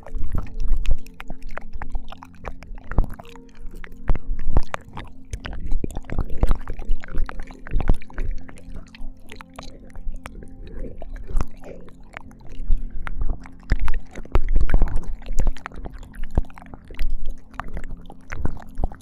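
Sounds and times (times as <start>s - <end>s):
faint low drone: 0.0s - 19.0s
wet mouth clicks and smacks: 0.0s - 19.0s.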